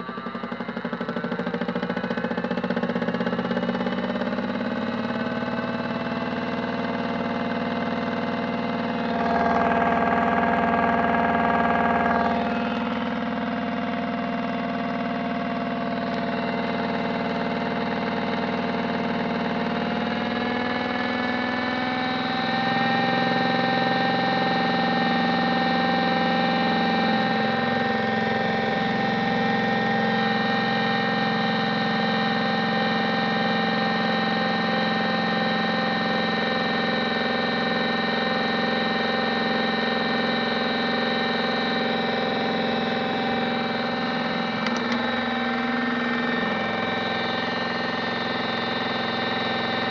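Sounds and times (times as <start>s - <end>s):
toy washing machine motor whine: 0.0s - 49.9s.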